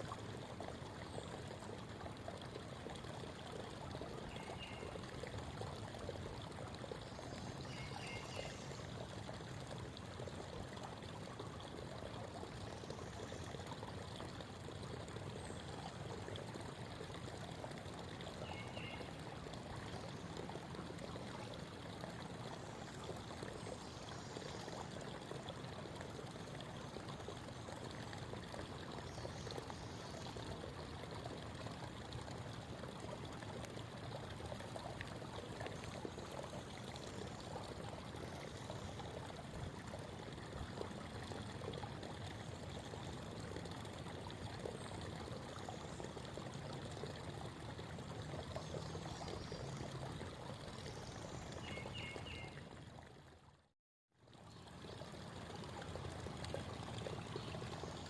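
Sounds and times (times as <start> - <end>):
creek water babbling over rocks: 0.0 - 58.0.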